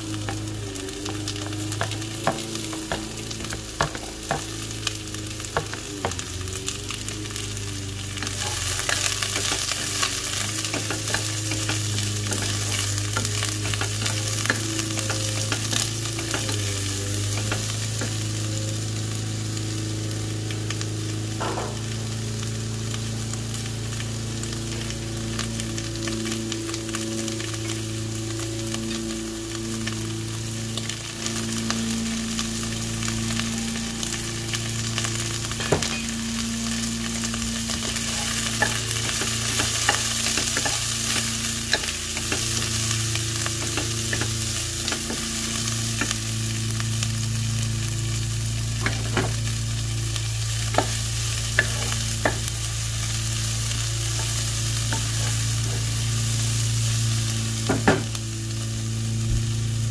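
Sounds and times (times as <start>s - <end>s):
low hum: 0.0s - 59.9s
onions sizzling in oil: 0.0s - 59.9s.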